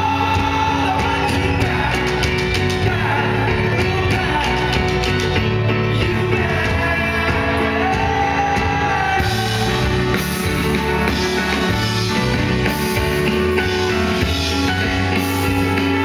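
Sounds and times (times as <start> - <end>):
person singing: 0.0 - 16.0
rock band playing: 0.0 - 16.0.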